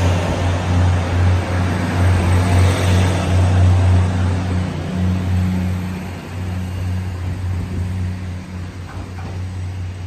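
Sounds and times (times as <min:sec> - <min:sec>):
diesel engines droning: 0:00.0 - 0:10.0
train wheel rushing noise: 0:00.0 - 0:10.0.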